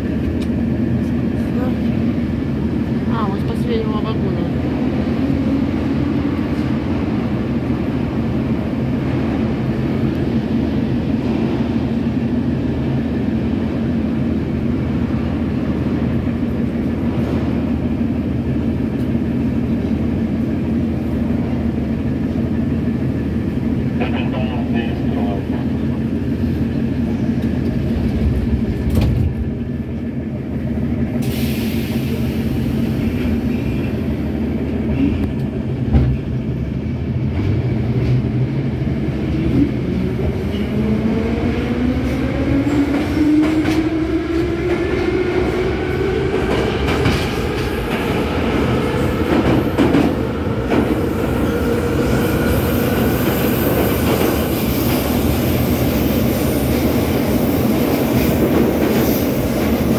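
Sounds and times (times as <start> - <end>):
train car rumbling and clattering: 0.0 - 59.9.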